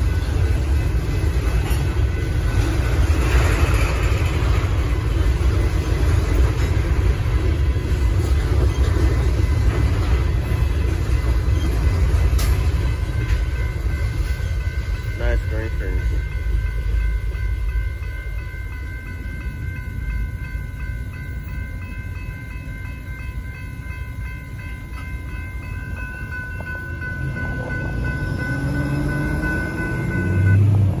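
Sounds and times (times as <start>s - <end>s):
crossing warning bell ringing: 0.0s - 31.0s
freight train rumbling: 0.0s - 31.0s.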